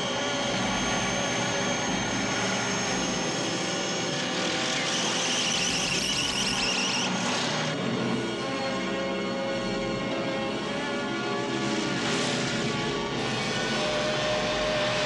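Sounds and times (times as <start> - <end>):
shrill wavering whine: 0.0 - 8.5, 11.1 - 15.0.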